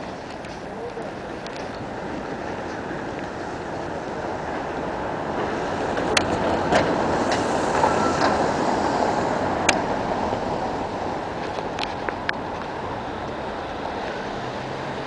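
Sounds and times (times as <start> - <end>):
street traffic rush: 0.0 - 15.0
vehicle passing: 1.9 - 15.0.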